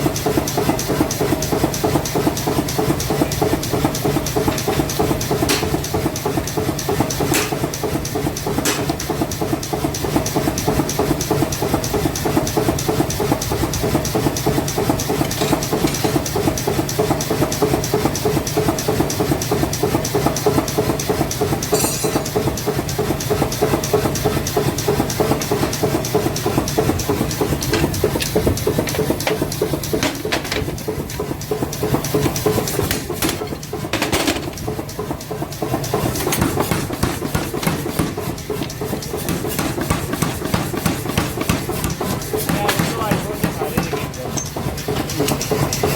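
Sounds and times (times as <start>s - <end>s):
machine clattering: 0.0s - 45.9s.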